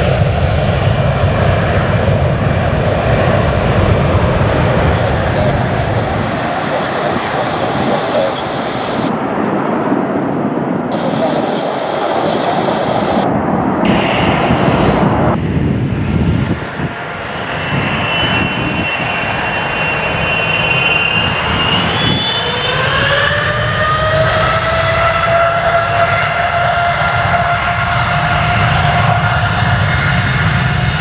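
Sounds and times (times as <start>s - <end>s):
jet engines roaring: 0.0s - 31.0s
engine whine rising in pitch: 2.4s - 9.4s, 10.9s - 15.6s, 16.3s - 30.8s.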